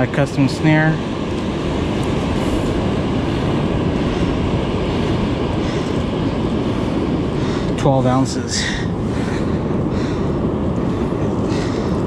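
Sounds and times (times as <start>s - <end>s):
ocean surf roaring: 0.0s - 12.0s
wind: 0.0s - 12.0s.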